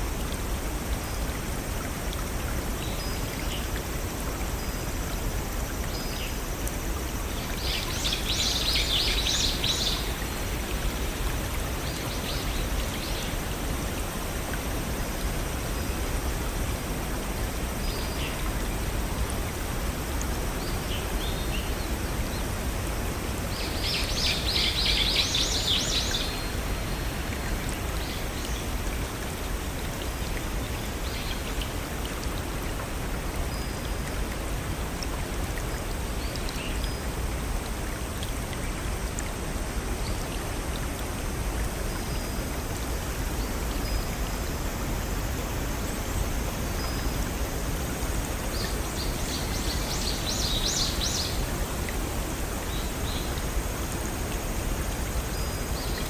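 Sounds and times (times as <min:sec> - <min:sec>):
waterfall and stream rushing: 0:00.0 - 0:56.0.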